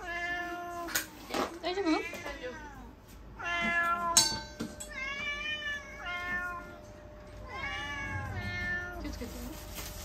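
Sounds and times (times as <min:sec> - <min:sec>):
cats meowing: 0:00.0 - 0:09.3.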